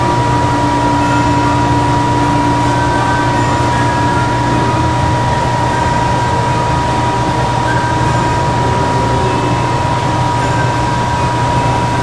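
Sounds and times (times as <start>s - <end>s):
background hum and hiss: 0.0s - 12.0s
constant high tone: 0.0s - 12.0s.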